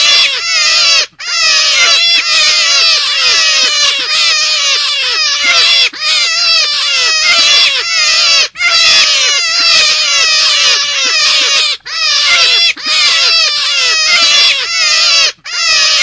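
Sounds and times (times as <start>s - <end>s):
chorus of falling high calls: 0.0s - 16.0s.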